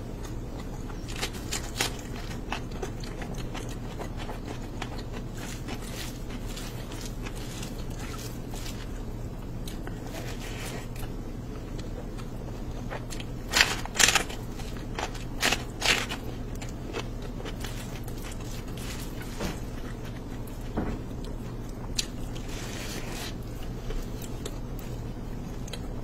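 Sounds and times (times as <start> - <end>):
crunching and chewing food: 0.0 - 26.0
steady low hum: 0.0 - 26.0.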